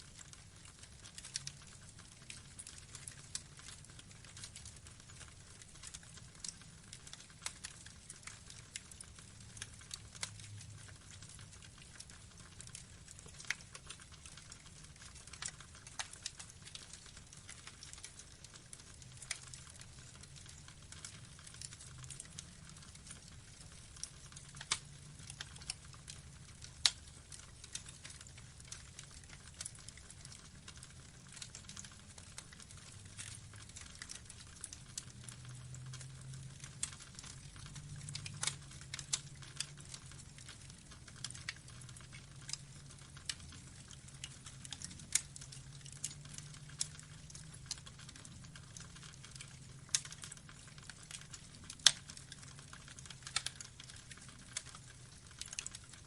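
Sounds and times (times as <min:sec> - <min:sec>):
burning logs crackling: 0:00.0 - 0:56.0
low rumble of fire: 0:00.0 - 0:56.0
sharp pops and snaps: 0:00.1 - 0:56.0.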